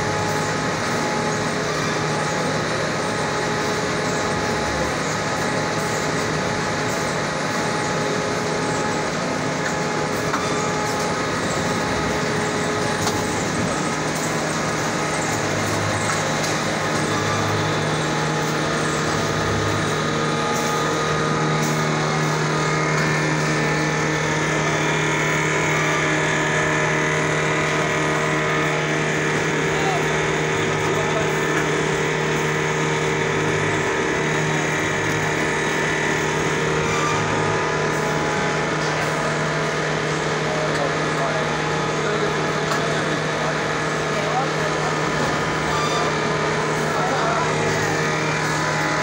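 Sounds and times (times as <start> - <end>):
machine humming: 0.0 - 49.0.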